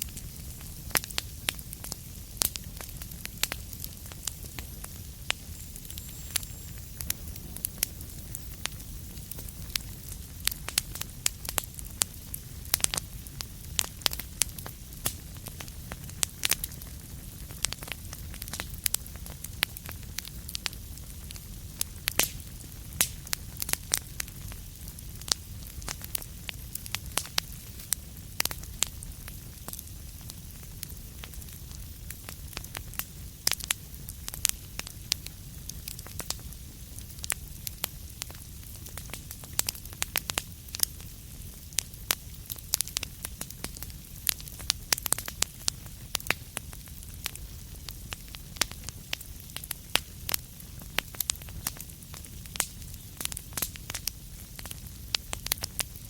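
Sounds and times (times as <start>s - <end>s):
fire crackling and popping: 0.0s - 56.0s
low rumble of fire: 0.0s - 56.0s.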